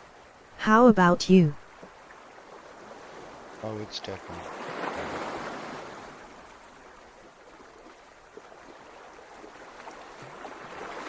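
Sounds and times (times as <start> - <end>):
surf washing on a beach: 1.9 - 11.0.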